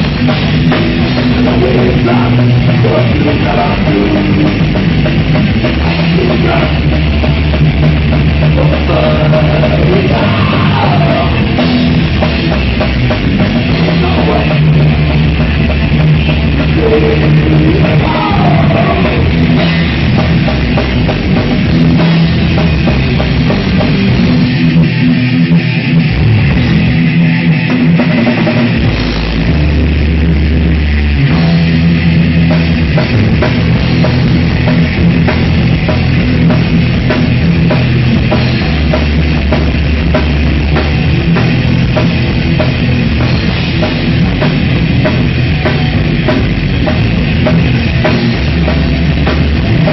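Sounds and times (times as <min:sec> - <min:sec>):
bass guitar: 0:00.0 - 0:49.9
drum kit: 0:00.0 - 0:49.9
electric guitar: 0:00.0 - 0:49.9.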